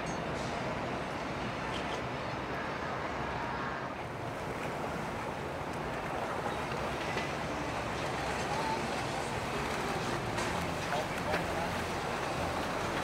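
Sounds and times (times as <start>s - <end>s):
water rushing past boat: 0.1s - 13.0s.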